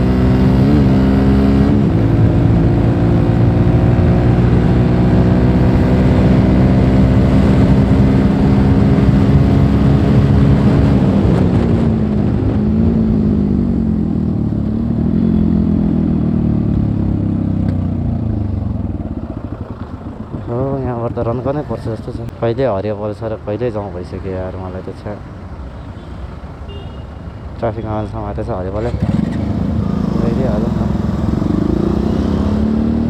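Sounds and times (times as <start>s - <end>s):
motorcycle engine running: 0.0s - 22.4s, 25.3s - 33.0s.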